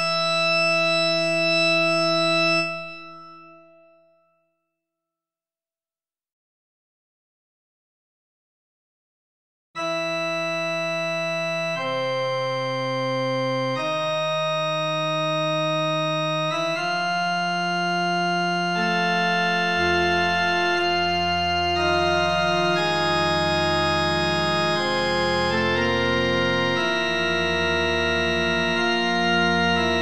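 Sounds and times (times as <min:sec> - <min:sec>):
organ playing a slow fugue: 0:00.0 - 0:04.0, 0:09.8 - 0:30.0.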